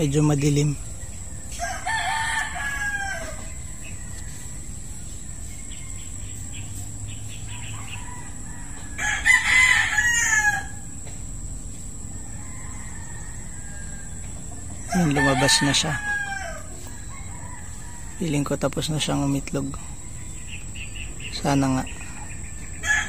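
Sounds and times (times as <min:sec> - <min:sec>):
rooster crowing: 0:00.0 - 0:23.0.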